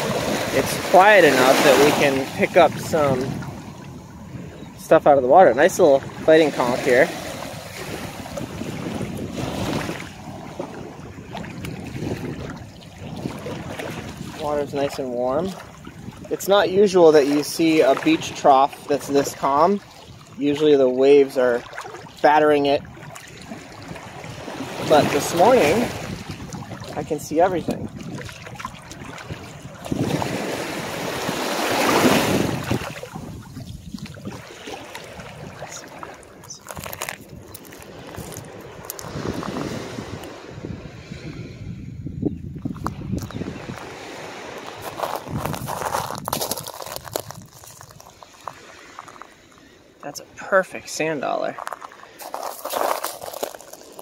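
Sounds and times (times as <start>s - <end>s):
water sloshing around wading legs: 0.0s - 4.0s, 5.8s - 40.4s, 42.6s - 49.8s, 50.9s - 54.0s.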